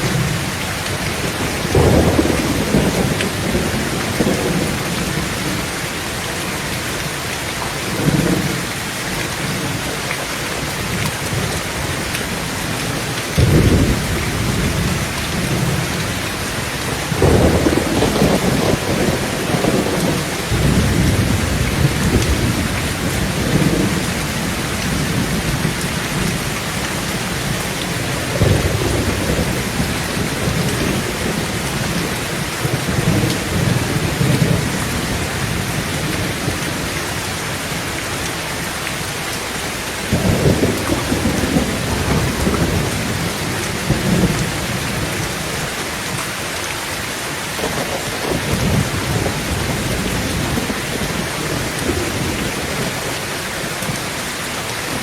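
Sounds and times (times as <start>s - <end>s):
thunder rumbling: 0.0s - 7.0s, 10.8s - 37.6s, 40.0s - 45.6s, 47.6s - 54.3s
heavy rain on a tin roof: 0.0s - 55.0s.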